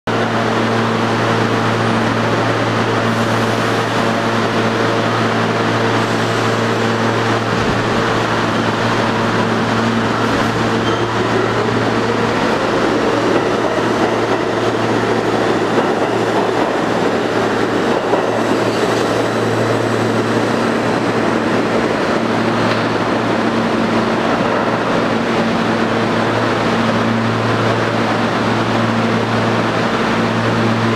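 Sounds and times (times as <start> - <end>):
subway train whine rising: 0.1 - 30.9
train running noise: 0.1 - 30.9.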